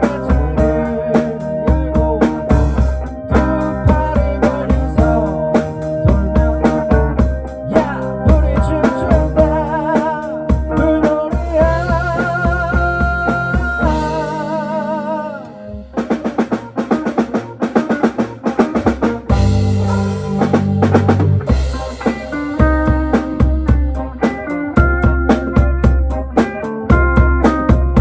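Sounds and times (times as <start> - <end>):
fast busy drumming: 0.0 - 14.5, 16.0 - 28.0
band music with drums and bass: 0.0 - 28.0.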